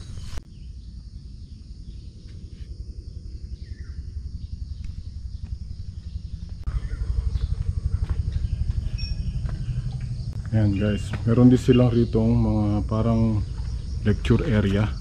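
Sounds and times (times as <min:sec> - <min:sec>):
insects buzzing: 0:00.0 - 0:15.0
low microphone rumble: 0:00.0 - 0:15.0.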